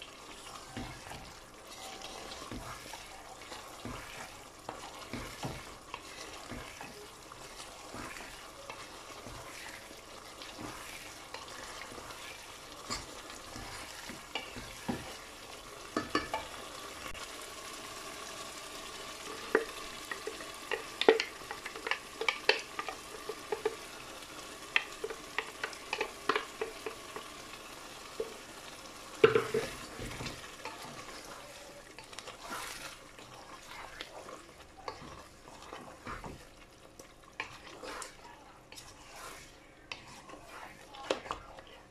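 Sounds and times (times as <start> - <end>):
curry sizzling in a pan: 0.0 - 41.9
spatula scraping and tapping pan: 0.6 - 17.2, 19.3 - 27.4, 28.0 - 28.5, 29.1 - 41.7.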